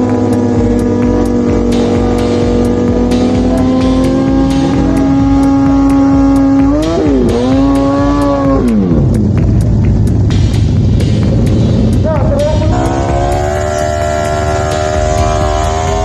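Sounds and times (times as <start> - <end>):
motorcycle engines at high revs: 0.0 - 16.0.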